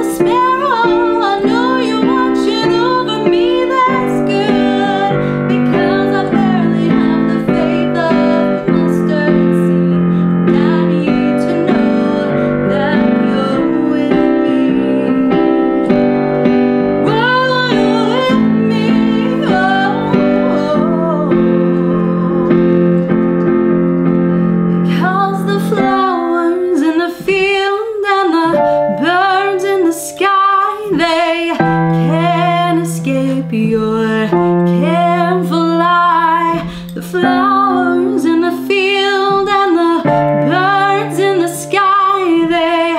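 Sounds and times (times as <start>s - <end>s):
woman singing: 0.0s - 23.1s, 24.8s - 42.9s
keyboard accompaniment: 0.0s - 42.9s.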